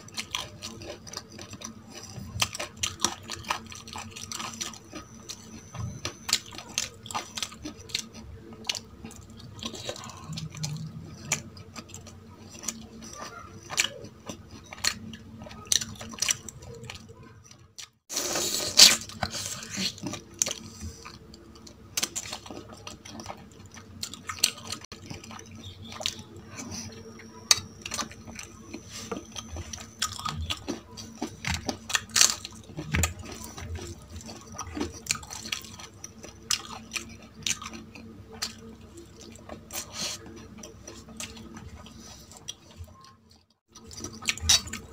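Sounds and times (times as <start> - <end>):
wet chewing and mouth clicks: 0.0 - 18.0, 18.8 - 44.9.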